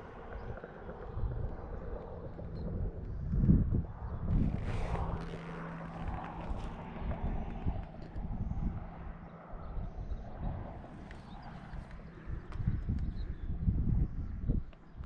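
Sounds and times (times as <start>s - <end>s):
distant engine drone: 0.0s - 15.0s
wind rumbling on microphone: 0.0s - 15.0s.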